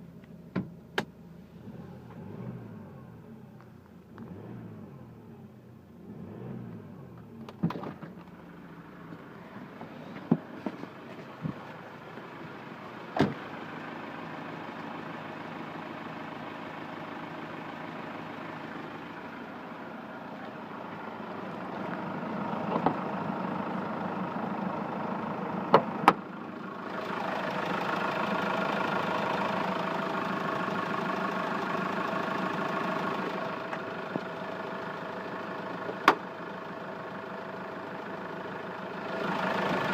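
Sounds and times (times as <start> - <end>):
van engine running: 0.0 - 39.9.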